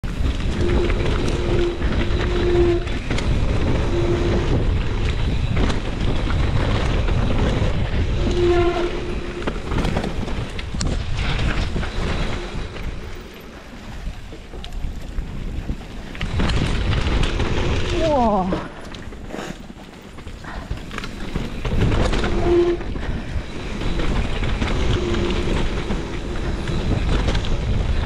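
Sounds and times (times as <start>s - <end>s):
bike tyres rumbling over rocky trail: 0.0s - 28.0s
wind noise: 0.0s - 28.0s.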